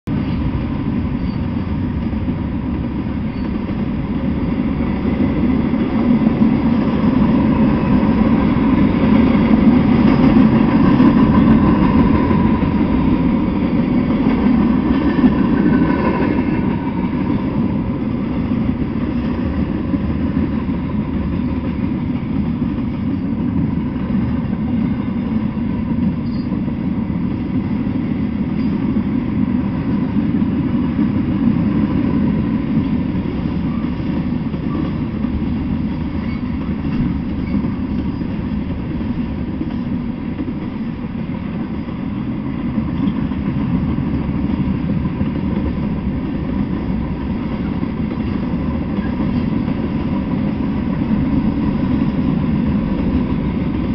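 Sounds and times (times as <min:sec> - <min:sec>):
train wheels rolling on track: 0:00.0 - 0:53.9.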